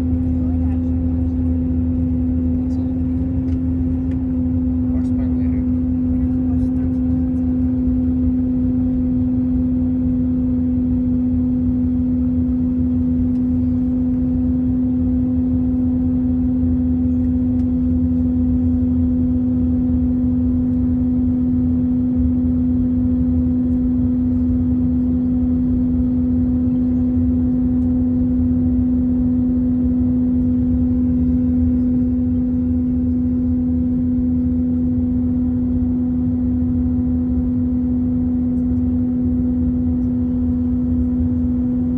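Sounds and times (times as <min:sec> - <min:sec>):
airplane cabin drone: 0:00.0 - 0:41.9
strong steady hum: 0:00.0 - 0:41.9.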